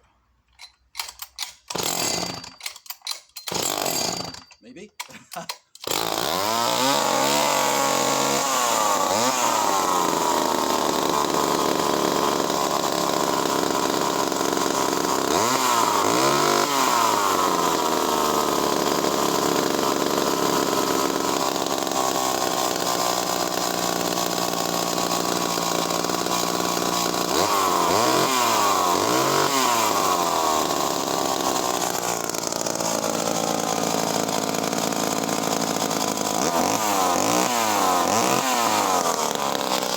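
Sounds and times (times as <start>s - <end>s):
chainsaw pull start: 0.2s - 39.9s
chainsaw revving: 1.0s - 2.6s, 3.5s - 39.9s.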